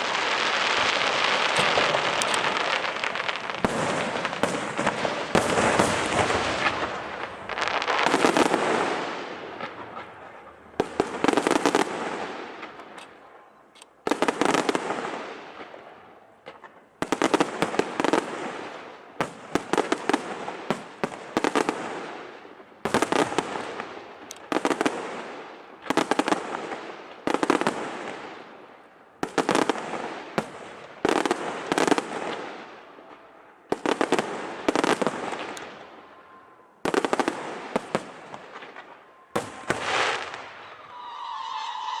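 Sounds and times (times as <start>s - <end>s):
fireworks bursting: 0.0s - 42.0s
fireworks crackling: 0.0s - 42.0s.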